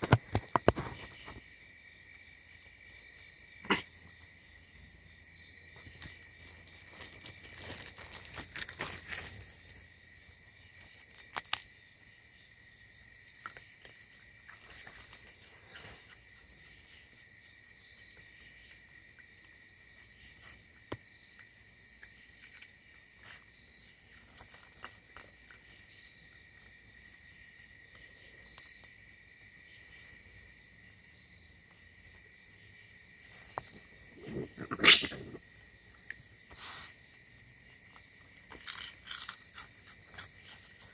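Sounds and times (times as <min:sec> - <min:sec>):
night insects droning: 0:00.0 - 0:40.9.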